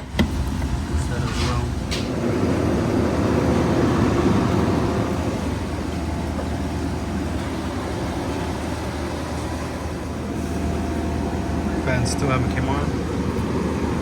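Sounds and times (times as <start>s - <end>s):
machinery low hum: 0.0s - 14.0s.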